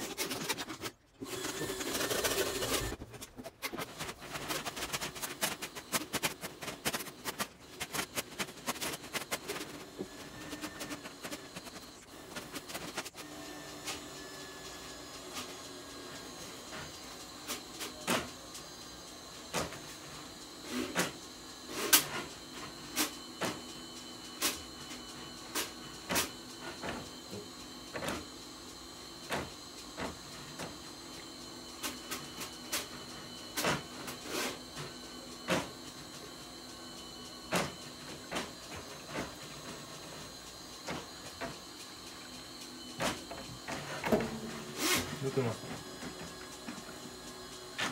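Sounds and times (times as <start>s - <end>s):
drain rodder motor whine: 0.0s - 3.0s, 3.8s - 47.9s.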